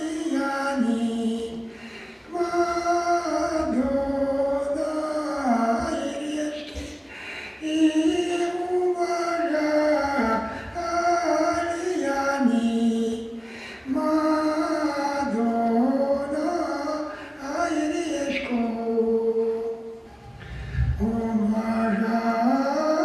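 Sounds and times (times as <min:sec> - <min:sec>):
person singing long held notes: 0:00.0 - 0:23.0.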